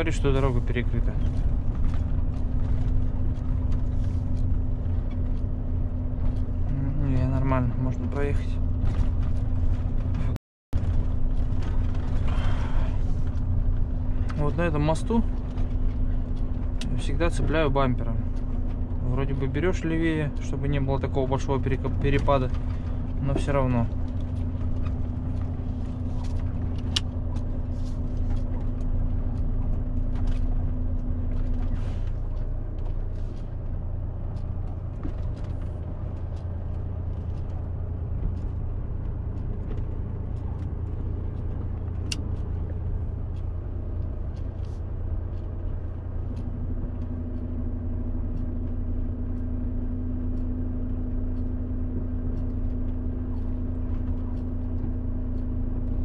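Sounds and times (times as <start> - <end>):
steady hum: 0.0 - 56.0
truck engine and road noise: 0.0 - 56.0.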